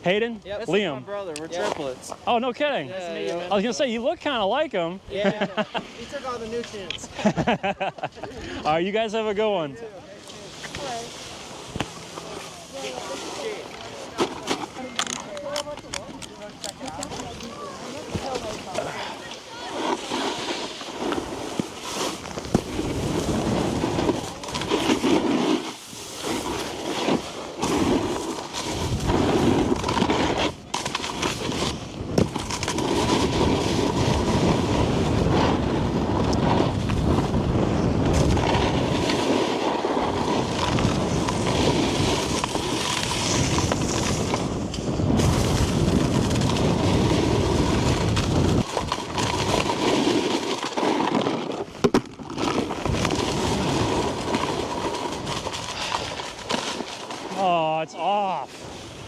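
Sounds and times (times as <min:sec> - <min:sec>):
snowboard scraping over snow: 0:00.0 - 0:59.0.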